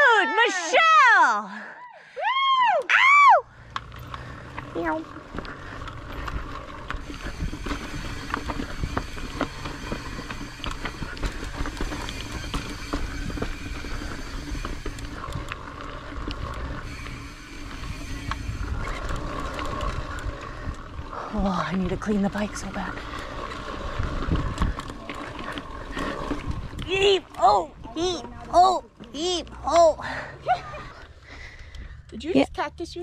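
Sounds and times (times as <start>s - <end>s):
rumble of wind and tyres: 2.4s - 33.0s
bike rattling over rocks: 3.6s - 30.9s.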